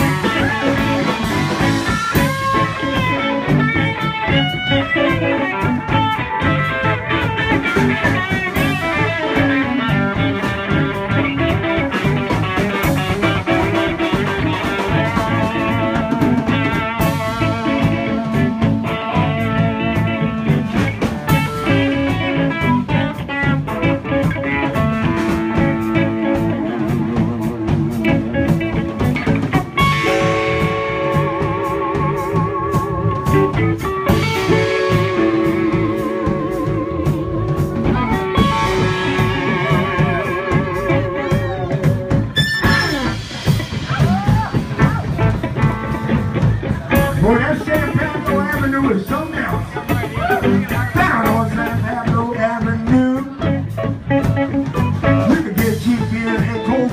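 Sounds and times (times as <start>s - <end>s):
blues band playing: 0.0s - 56.9s
steady drum beat: 0.0s - 56.9s.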